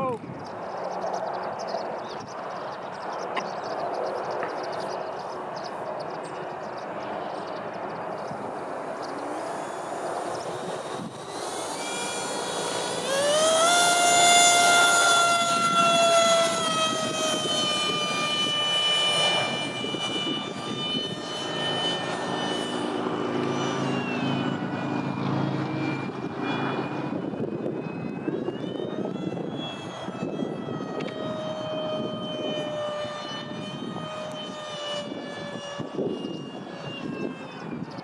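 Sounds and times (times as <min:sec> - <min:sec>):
electric ducted fan jet whine: 0:00.0 - 0:38.0
low wind rumble: 0:00.0 - 0:38.0.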